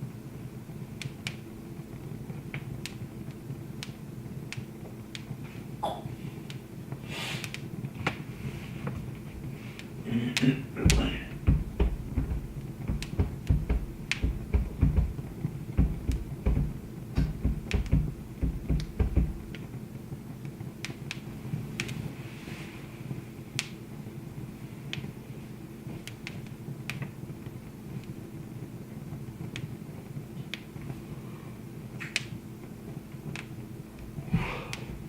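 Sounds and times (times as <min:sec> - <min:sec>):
faint steady hum: 0:00.0 - 0:35.0
wood fire crackling and popping: 0:00.0 - 0:35.0.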